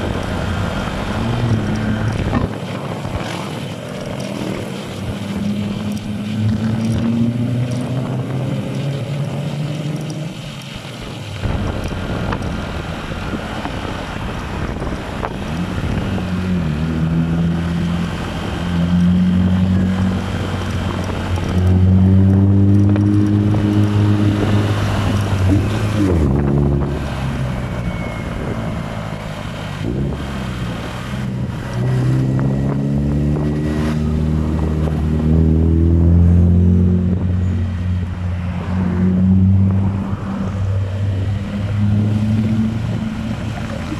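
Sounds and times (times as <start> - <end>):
motorcycle engine revving: 0.0 - 10.7, 11.4 - 43.9
wind noise on microphone: 0.0 - 43.9.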